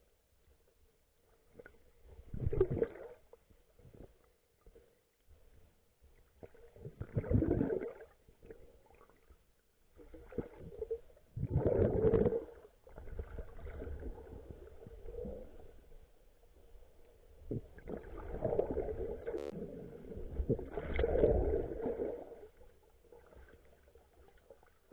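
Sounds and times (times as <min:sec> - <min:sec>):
muffled water sloshing underwater: 0:00.0 - 0:24.9.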